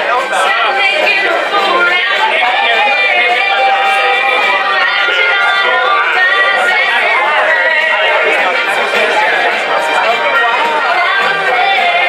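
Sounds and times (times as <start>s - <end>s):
backing music: 0.0s - 12.0s
woman singing into microphone: 0.3s - 8.7s, 10.1s - 12.0s.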